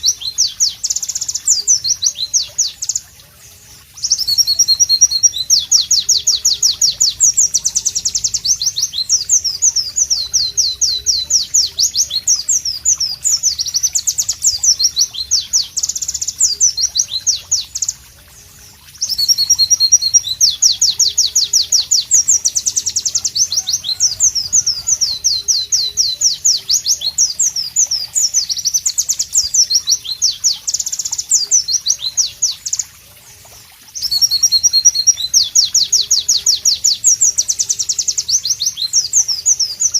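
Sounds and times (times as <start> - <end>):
bird singing rapid high chirps: 0.0 - 3.1, 3.7 - 32.9, 33.9 - 39.9.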